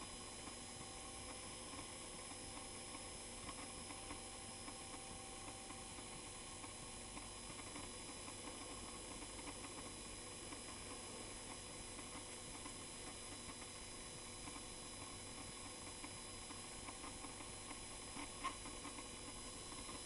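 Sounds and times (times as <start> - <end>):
faint motor whine: 0.0 - 20.0.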